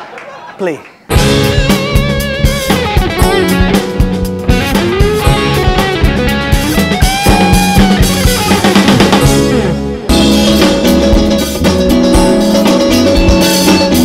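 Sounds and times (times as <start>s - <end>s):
rock band playing: 1.1s - 14.0s.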